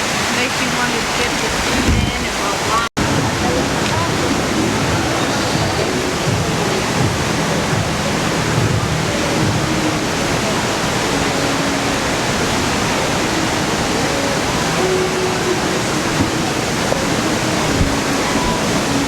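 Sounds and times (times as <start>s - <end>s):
water pouring down waterfall: 0.0s - 19.0s.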